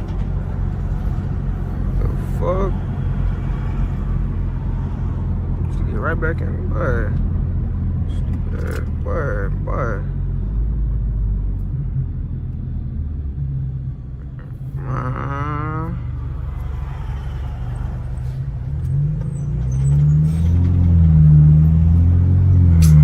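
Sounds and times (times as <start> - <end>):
car engine droning: 0.0 - 23.0.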